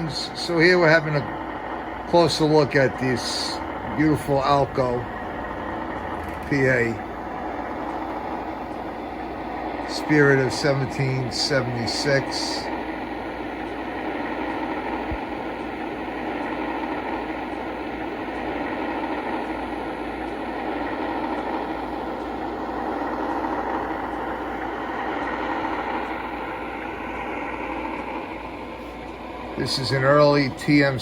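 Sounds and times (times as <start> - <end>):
model train rumbling on track: 0.0 - 31.0.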